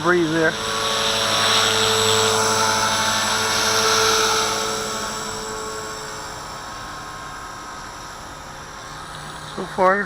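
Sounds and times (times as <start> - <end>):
rc helicopter motor and rotors whining: 0.0 - 10.0.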